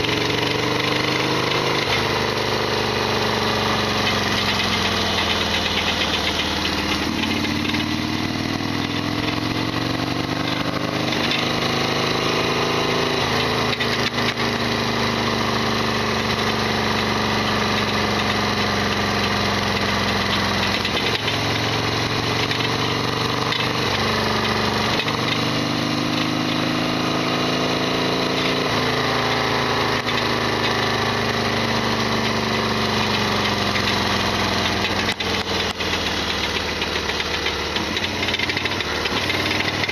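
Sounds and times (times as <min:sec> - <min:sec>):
engine rattling: 0:00.0 - 0:39.9
motorcycle engine revving: 0:00.0 - 0:39.9.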